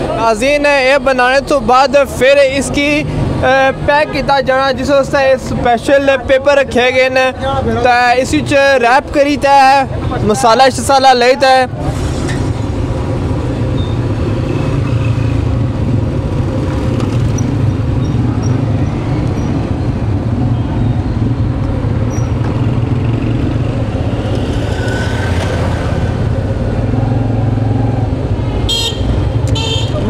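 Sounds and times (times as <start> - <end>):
street traffic engine hum: 0.0 - 30.0.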